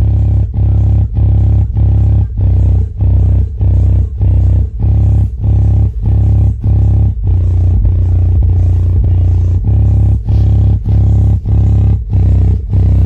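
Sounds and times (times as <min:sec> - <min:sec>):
deep bass beat from subwoofer: 0:00.0 - 0:13.0.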